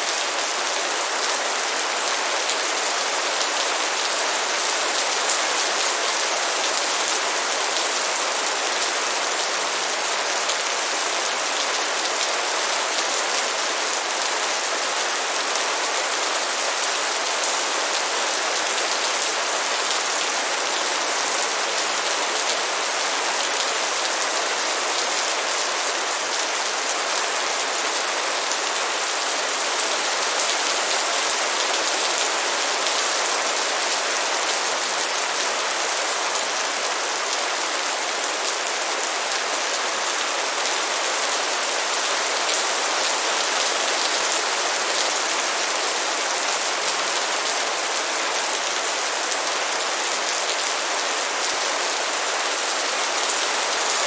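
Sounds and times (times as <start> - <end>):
rain pattering steadily: 0.0 - 54.0.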